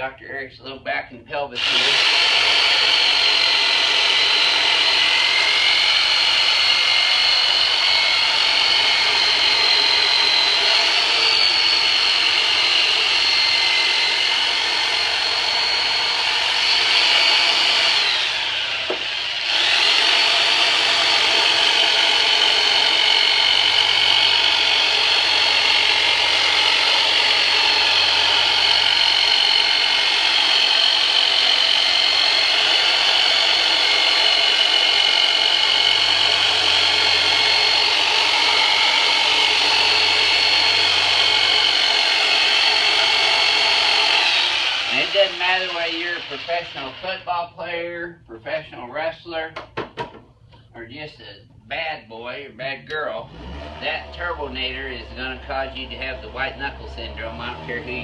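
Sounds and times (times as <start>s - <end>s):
massage tool motor whine: 1.6s - 47.4s, 53.3s - 58.0s.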